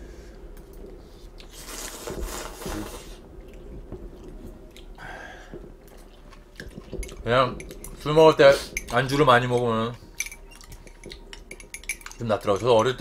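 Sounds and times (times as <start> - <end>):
wet chewing: 1.3 - 13.0.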